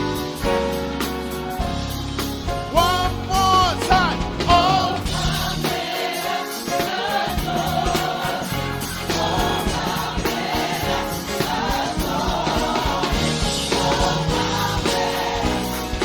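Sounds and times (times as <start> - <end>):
bass: 0.0 - 5.8, 7.3 - 16.0
drums: 0.0 - 16.0
group singing gospel: 0.0 - 16.0.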